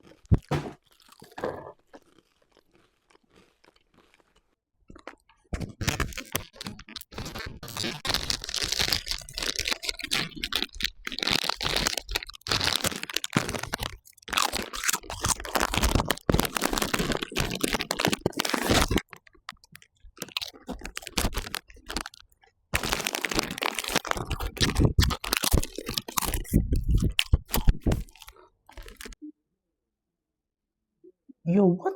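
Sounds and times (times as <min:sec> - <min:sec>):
packet crinkling: 0:00.0 - 0:04.4, 0:05.0 - 0:29.2
chewing crunchy chips: 0:00.0 - 0:29.2.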